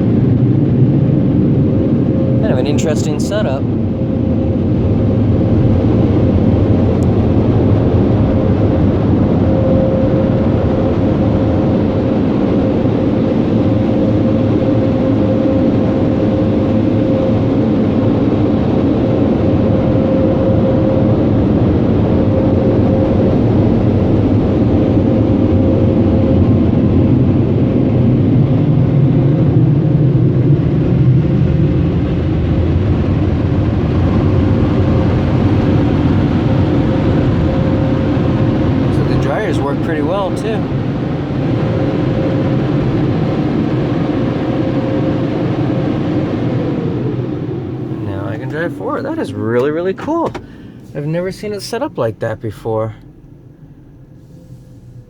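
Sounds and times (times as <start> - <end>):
car wash blower dryers: 0.0 - 55.0
constant hum: 0.0 - 55.0.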